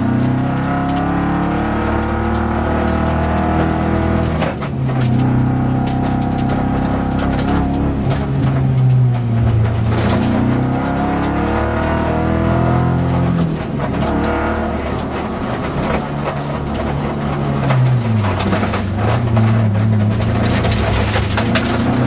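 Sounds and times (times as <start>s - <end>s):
knocks and rattles in car: 0.0s - 22.0s
rally car engine revving: 0.0s - 22.0s.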